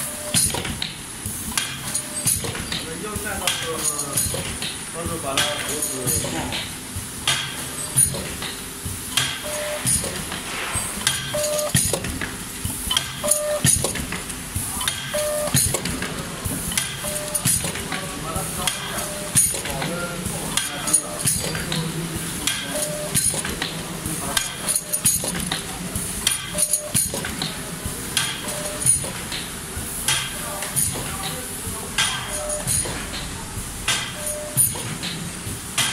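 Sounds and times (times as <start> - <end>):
packing machine clacks: 0.0 - 35.9.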